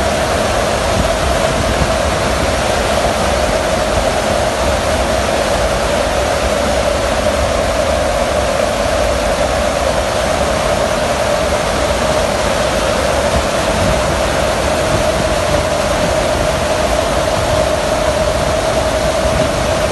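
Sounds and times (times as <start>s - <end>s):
aircraft engine drone: 0.0s - 19.9s
constant hum: 0.0s - 19.9s
rushing air roar: 0.0s - 19.9s.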